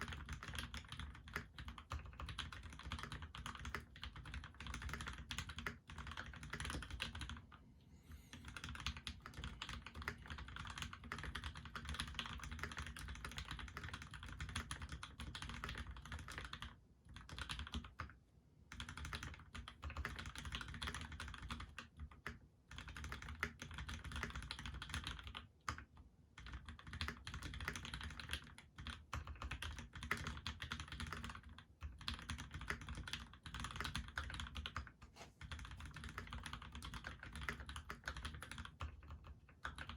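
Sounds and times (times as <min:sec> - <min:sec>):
typing on a mechanical keyboard: 0:00.0 - 0:07.5, 0:08.4 - 0:39.9.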